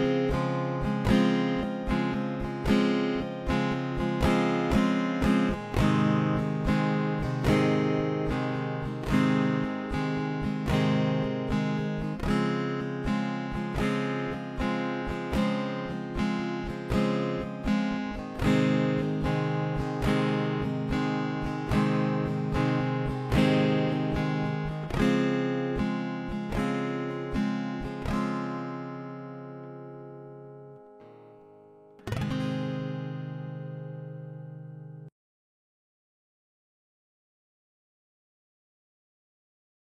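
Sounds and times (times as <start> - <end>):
acoustic guitar strumming chords: 0.0 - 35.1.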